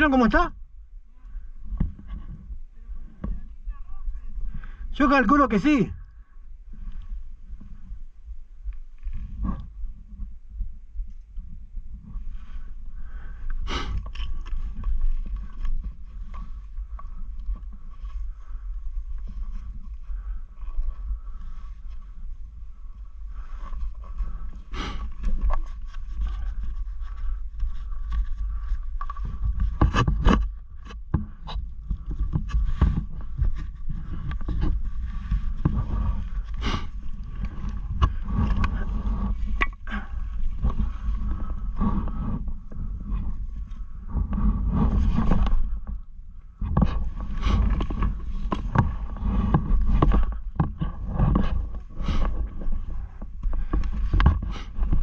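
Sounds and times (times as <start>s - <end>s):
low microphone rumble: 0.0s - 55.0s.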